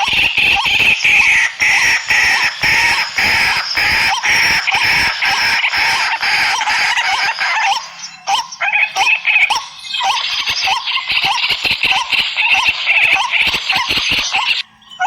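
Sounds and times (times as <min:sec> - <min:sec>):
chickens calling: 0:00.0 - 0:15.0
dense chirring chorus: 0:00.0 - 0:15.0.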